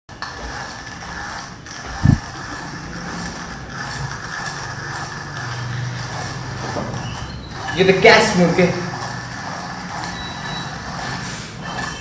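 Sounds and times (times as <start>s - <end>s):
hand coffee grinder grinding: 0.1s - 12.0s.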